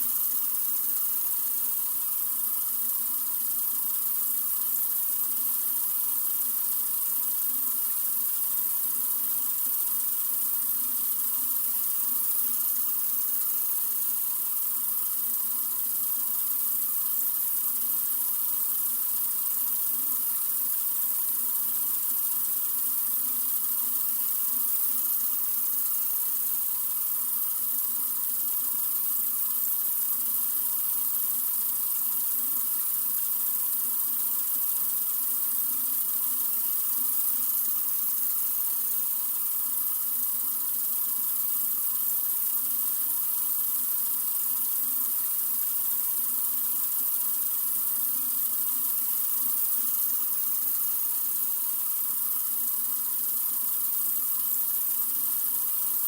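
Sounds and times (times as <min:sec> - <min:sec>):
sink faucet running: 0:00.0 - 0:56.0.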